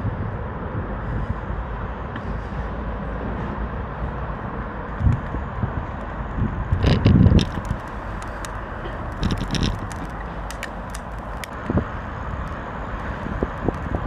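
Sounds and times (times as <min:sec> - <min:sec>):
road rumble: 0:00.0 - 0:14.0
wind on microphone: 0:00.0 - 0:14.0.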